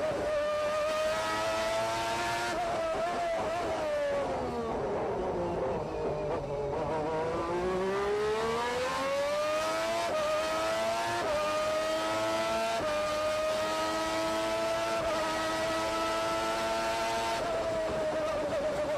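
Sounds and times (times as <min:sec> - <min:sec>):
racing car engine accelerating: 0:00.0 - 0:18.9.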